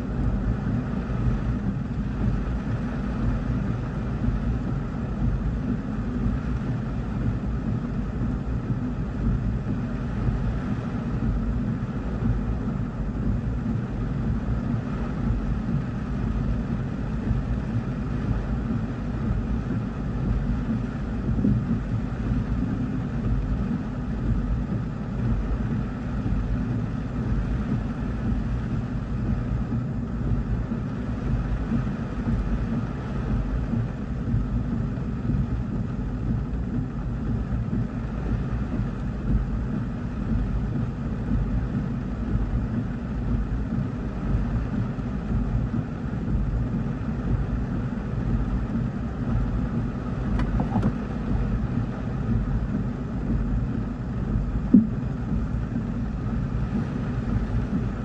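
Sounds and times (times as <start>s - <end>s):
heavy rain on car roof: 0.2s - 7.6s, 9.2s - 34.6s, 35.2s - 58.0s.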